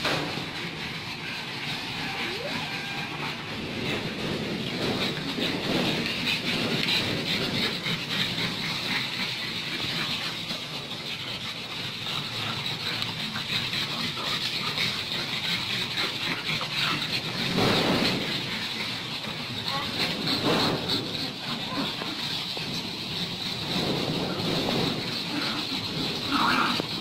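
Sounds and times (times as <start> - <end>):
dogs snuffling and grunting: 0.0 - 27.0.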